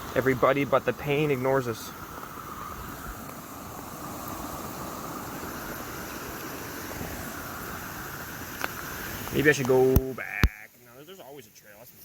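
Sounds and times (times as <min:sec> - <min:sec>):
rain falling through foliage: 0:00.0 - 0:12.0.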